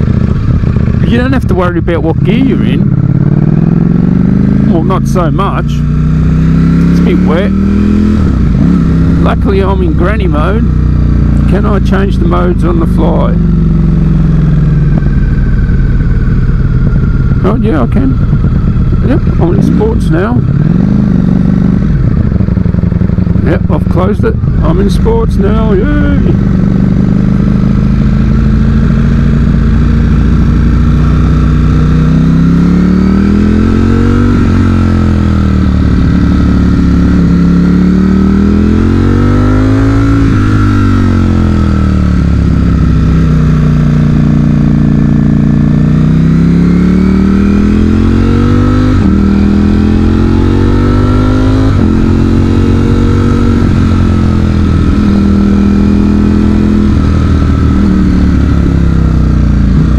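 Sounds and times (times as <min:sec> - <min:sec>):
motorcycle engine revving through gears: 0:00.0 - 0:59.9.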